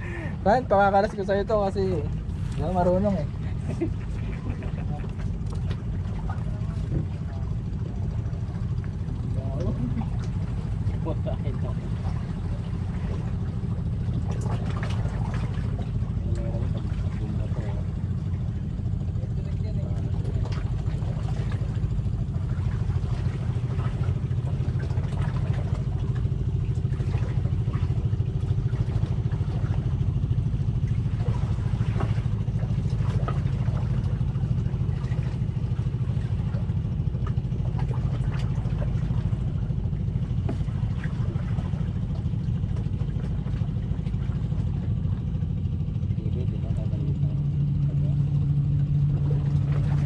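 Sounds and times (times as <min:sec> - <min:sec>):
engine running steadily: 0:00.0 - 0:50.0.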